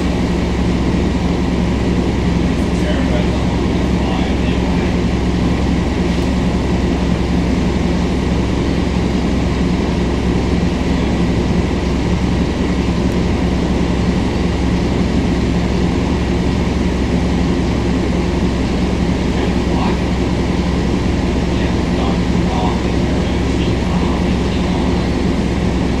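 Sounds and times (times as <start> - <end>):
bus diesel engine droning: 0.0 - 26.0.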